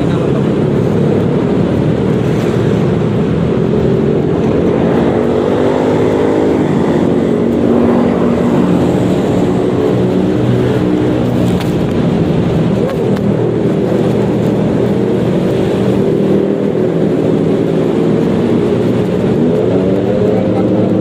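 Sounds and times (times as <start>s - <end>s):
scooter engine running: 0.0s - 21.0s
wind noise on microphone: 0.0s - 21.0s.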